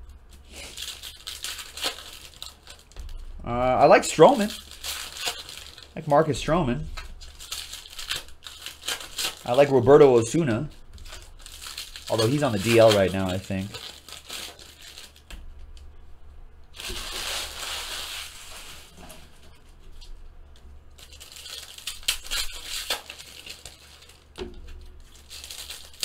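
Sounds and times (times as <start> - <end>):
foil wrappers crinkling and tearing: 0.3 - 15.3, 16.7 - 20.2, 21.0 - 26.0.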